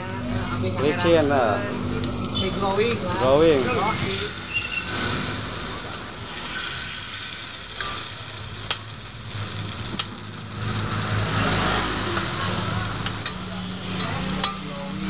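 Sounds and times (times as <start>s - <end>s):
batter sizzling in pan: 0.2s - 15.0s.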